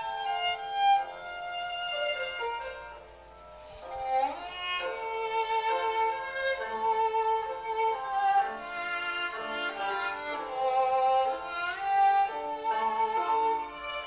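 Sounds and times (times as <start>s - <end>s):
bowed string melody: 0.0s - 14.0s.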